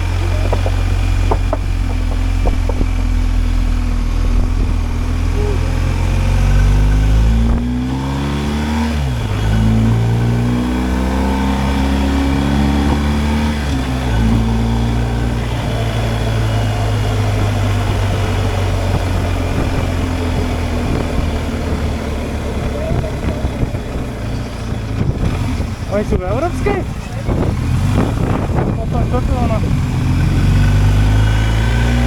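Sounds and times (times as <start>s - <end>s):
motorcycle engine running: 0.0s - 32.0s
road and wind noise: 0.0s - 32.0s.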